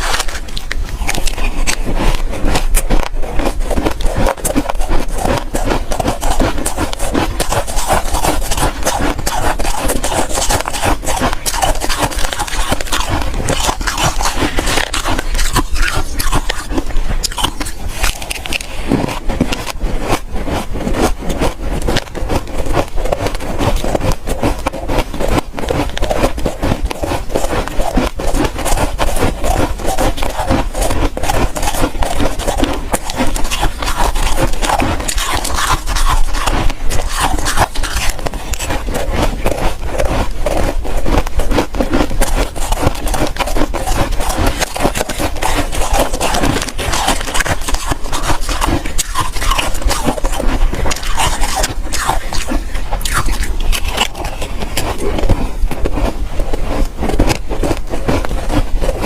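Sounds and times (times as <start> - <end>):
chewing ice crunches: 0.0 - 59.0.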